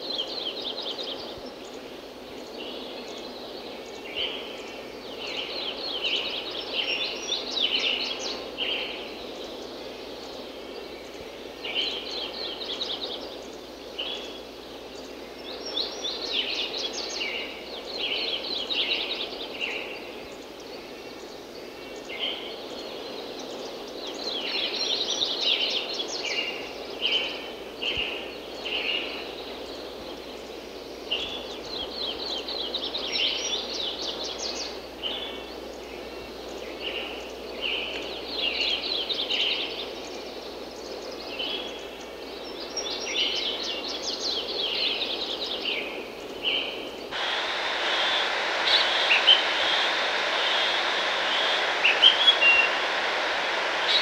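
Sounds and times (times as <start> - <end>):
songbird singing: 0.0 - 54.0
steady background hiss: 0.0 - 54.0.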